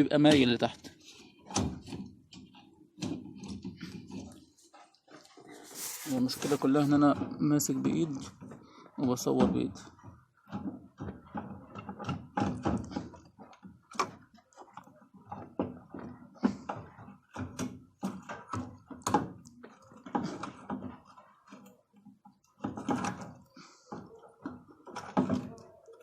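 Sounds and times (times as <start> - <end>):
plastic fuel pump clicking and scraping: 0.0 - 26.0.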